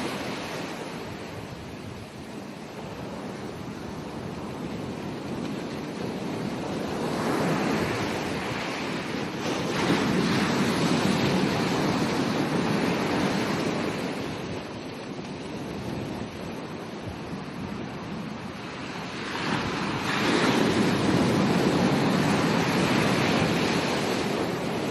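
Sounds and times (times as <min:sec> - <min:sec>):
ocean waves breaking on beach: 0:00.0 - 0:24.9.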